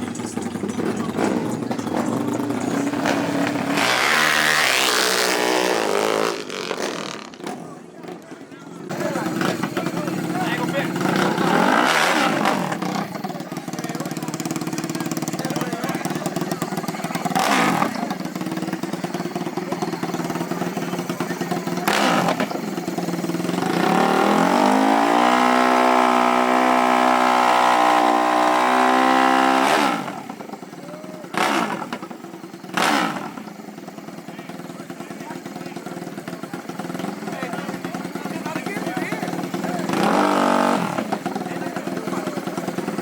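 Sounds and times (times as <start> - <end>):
engine throttle blips: 0.0 - 43.0
racing engine revving: 0.0 - 43.0.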